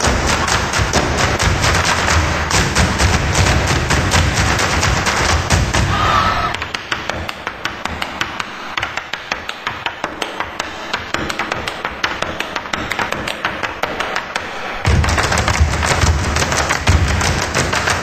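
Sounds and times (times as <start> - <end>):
hard shoes tapping on stage: 0.0 - 5.9, 7.0 - 18.0.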